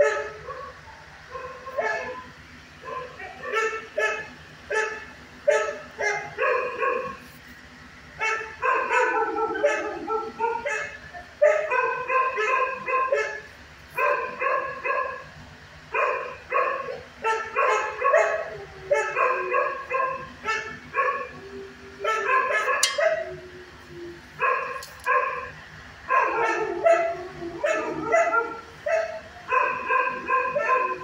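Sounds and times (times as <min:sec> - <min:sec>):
dog barking: 0:00.0 - 0:07.2, 0:08.2 - 0:15.3, 0:16.0 - 0:21.4, 0:22.0 - 0:23.4, 0:24.4 - 0:25.5, 0:26.1 - 0:31.0.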